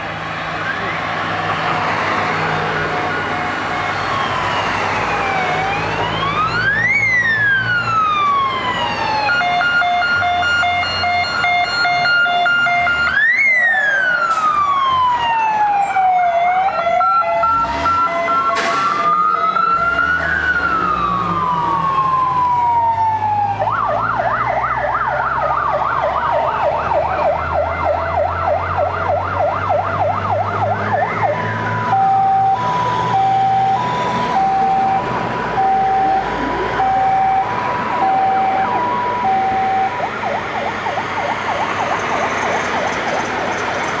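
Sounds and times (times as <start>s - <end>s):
fire engine sirens: 0.0s - 44.0s
truck engine passing: 0.0s - 44.0s.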